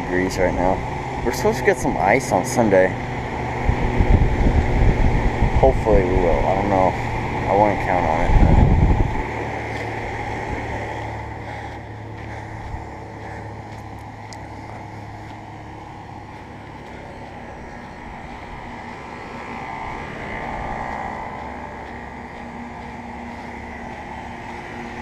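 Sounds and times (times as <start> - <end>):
fan whoosh: 0.0 - 25.0
low compressor hum: 0.0 - 25.0.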